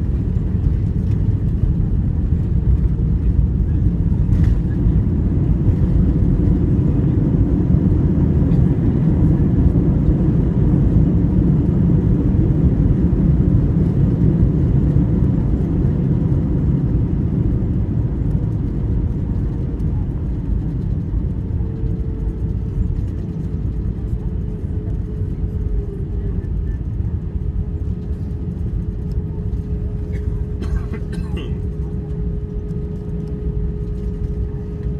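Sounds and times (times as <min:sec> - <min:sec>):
rumble of engines and wheels: 0:00.0 - 0:34.9.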